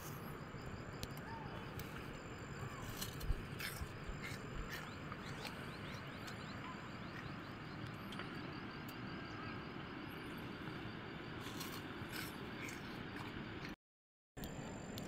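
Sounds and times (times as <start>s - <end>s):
outdoor background noise: 0.0s - 13.8s, 14.4s - 15.0s.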